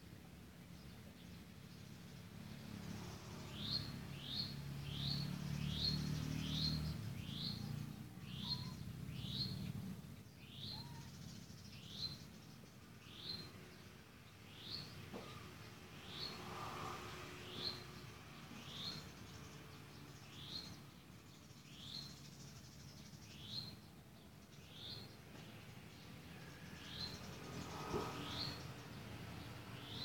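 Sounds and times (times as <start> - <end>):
small bird chirping: 0.8 - 30.0.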